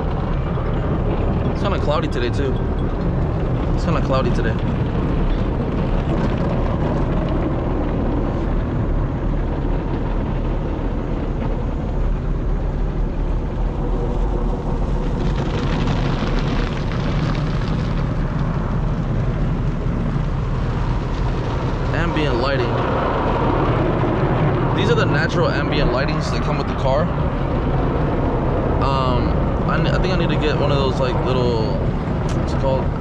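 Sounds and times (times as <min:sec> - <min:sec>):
rumble of car wash machinery: 0:00.0 - 0:33.0.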